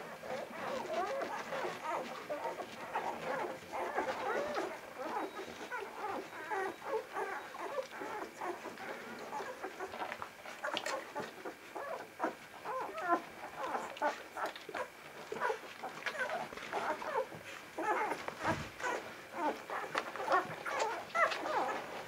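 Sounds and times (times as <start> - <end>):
puppies squeaking and whimpering: 0.2 - 22.0.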